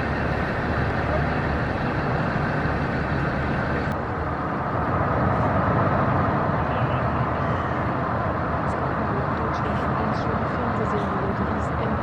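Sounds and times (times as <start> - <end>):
ship diesel engine rumbling: 0.0 - 12.0.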